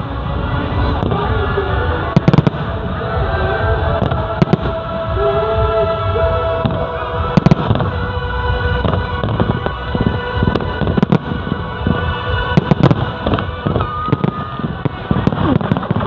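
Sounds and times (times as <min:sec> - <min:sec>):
continuous low rumble: 0:00.0 - 0:16.0
fireworks bangs and crackles: 0:00.0 - 0:16.0.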